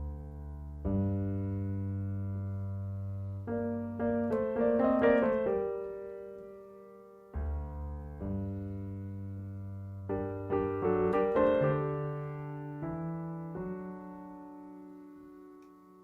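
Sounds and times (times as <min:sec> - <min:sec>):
electric piano playing: 0:00.0 - 0:16.0.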